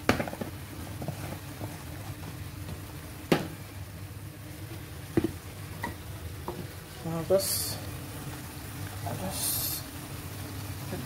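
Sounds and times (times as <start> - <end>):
sauce bubbling in a pan: 0.0 - 11.0.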